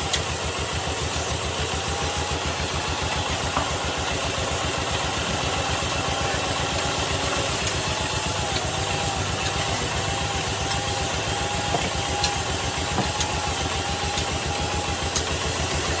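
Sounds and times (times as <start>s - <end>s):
wood-turning lathe running: 0.0s - 16.0s.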